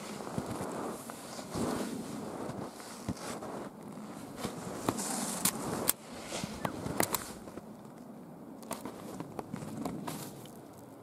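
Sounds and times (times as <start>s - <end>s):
footsteps crunching through snow: 0.0s - 7.7s, 8.7s - 10.5s.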